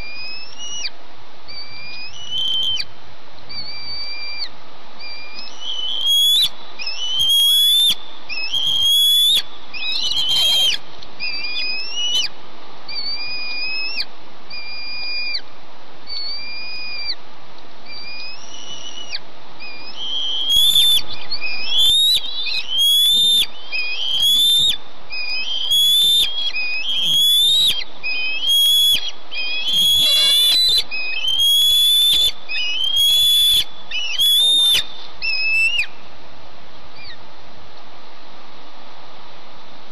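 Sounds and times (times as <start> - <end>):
eaglets whistling begging calls: 0.0 - 0.9, 1.5 - 2.9, 3.5 - 12.3, 12.9 - 15.4, 16.1 - 17.2, 17.9 - 36.0.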